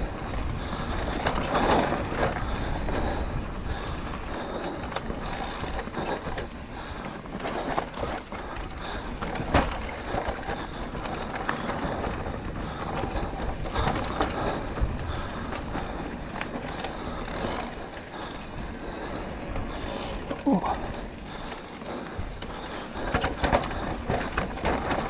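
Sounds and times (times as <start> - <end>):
bike frame and chain rattling: 0.0 - 25.0
tyres rumbling over dirt and rock: 0.0 - 25.0.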